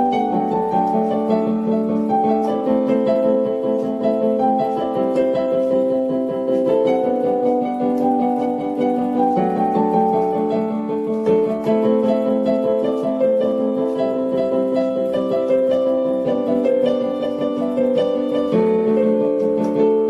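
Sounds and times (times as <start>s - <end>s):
piano melody over chords: 0.0s - 20.0s.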